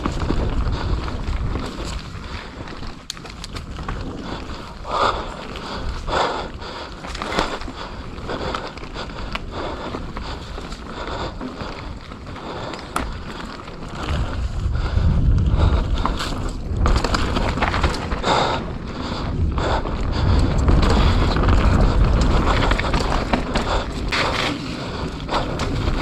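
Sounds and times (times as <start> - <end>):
wind buffeting microphone: 0.0 - 2.9, 3.5 - 26.0
bike clattering over bumps: 0.0 - 26.0
bike tyres rolling on dirt: 0.0 - 26.0.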